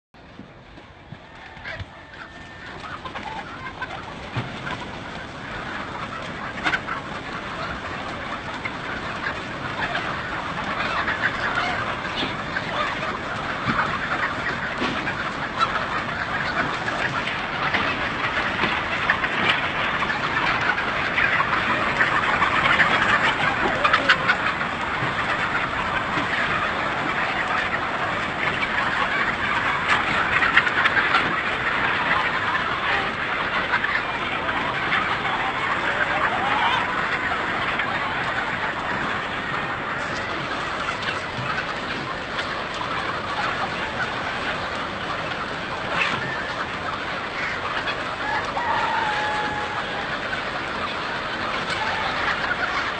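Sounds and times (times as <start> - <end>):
flock of chickens calling: 0.2 - 52.9.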